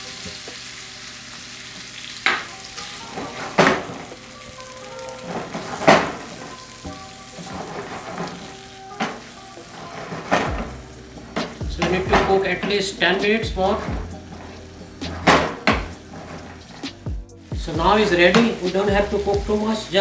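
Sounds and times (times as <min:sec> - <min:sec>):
curry sizzling in a pan: 0:00.0 - 0:20.0
spatula scraping a pan: 0:02.2 - 0:20.0.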